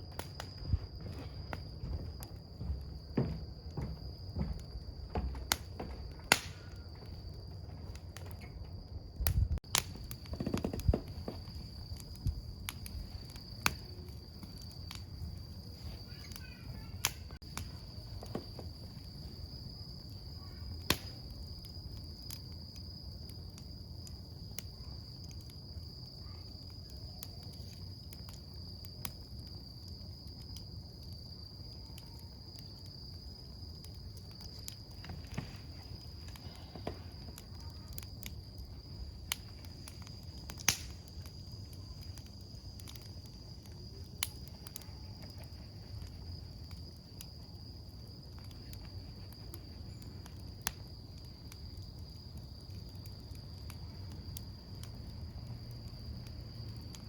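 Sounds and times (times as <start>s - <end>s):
campfire crackling and popping: 0.0s - 57.0s
insect trill: 0.0s - 57.0s.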